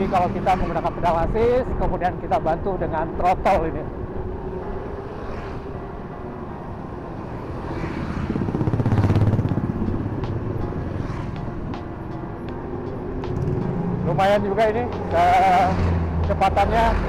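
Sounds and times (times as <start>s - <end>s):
bike riding rumble: 0.0s - 17.0s
passing motor vehicle: 0.0s - 17.0s.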